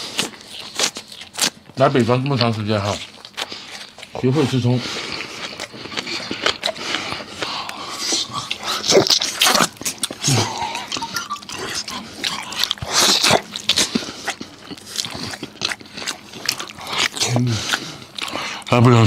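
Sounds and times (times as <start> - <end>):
lip-smacking: 0.0 - 19.0
slurping: 0.0 - 19.0
wet chewing: 0.0 - 19.0.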